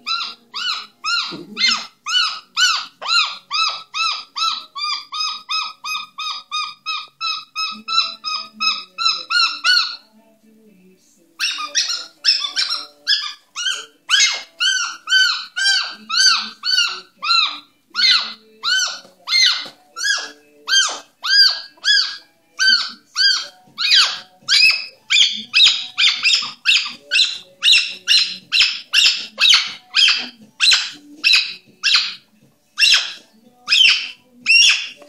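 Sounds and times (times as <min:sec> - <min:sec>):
cockatoo yapping calls: 0:00.0 - 0:10.0, 0:11.4 - 0:35.0.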